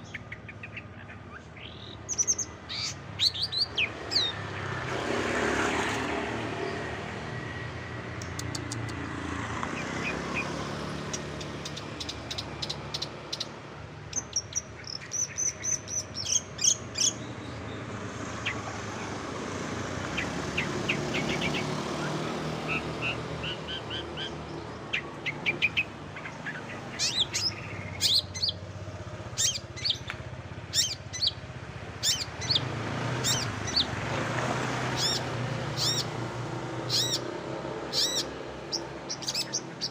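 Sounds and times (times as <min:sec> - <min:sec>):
songbird chirping: 0:00.0 - 0:05.2, 0:08.1 - 0:39.9.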